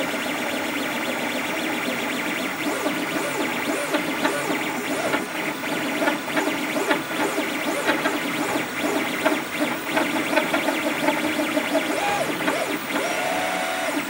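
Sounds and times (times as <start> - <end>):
printer stepper motors whining: 0.1 - 14.0.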